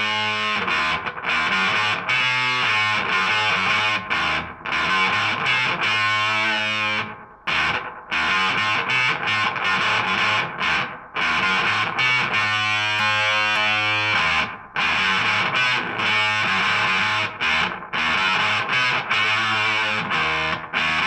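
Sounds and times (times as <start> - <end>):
distorted electric guitar chords: 0.0 - 21.0.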